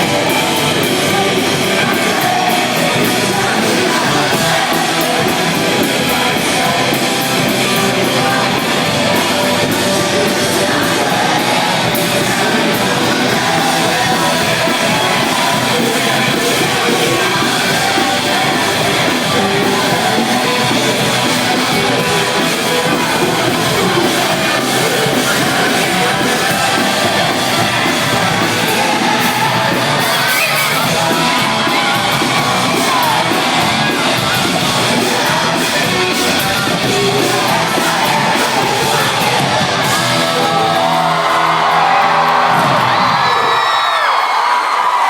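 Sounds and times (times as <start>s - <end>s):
person shouting and singing: 0.0s - 44.0s
live rock band: 0.0s - 45.0s.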